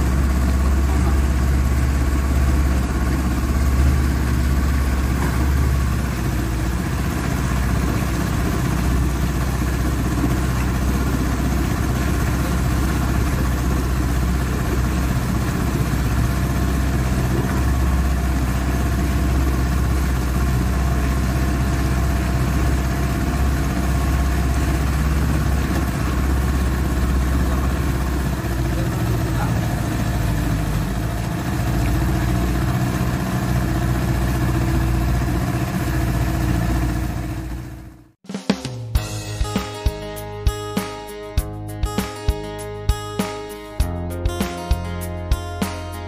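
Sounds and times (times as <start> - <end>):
small boat engine running: 0.0 - 38.2.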